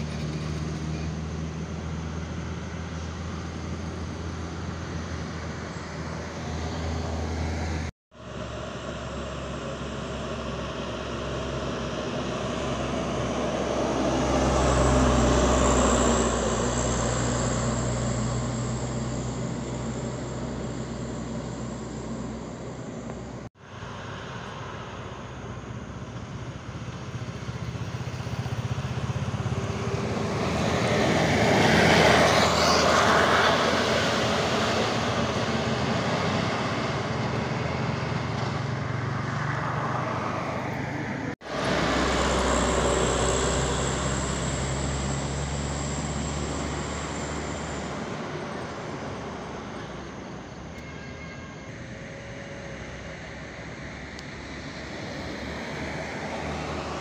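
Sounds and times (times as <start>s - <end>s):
heavy low engine rumble: 0.0s - 57.0s
road traffic passing: 0.0s - 57.0s.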